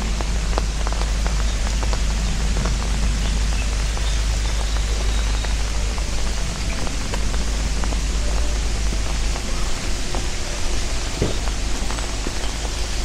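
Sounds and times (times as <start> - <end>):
low rumble: 0.0 - 13.0
steady rain: 0.0 - 13.0.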